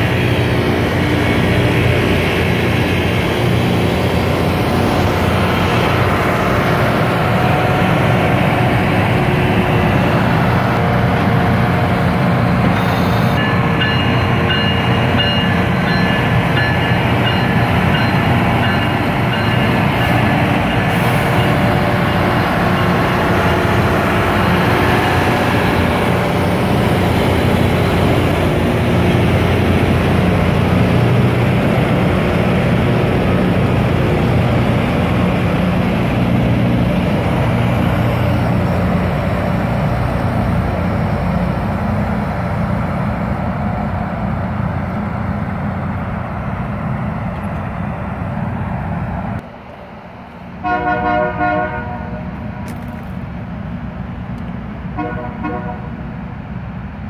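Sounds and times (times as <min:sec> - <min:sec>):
rail grinder rumbling: 0:00.0 - 0:57.0.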